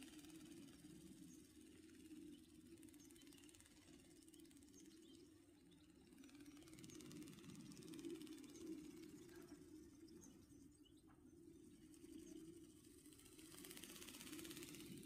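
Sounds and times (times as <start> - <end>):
small motor whirring and clicking: 0.0 - 15.0.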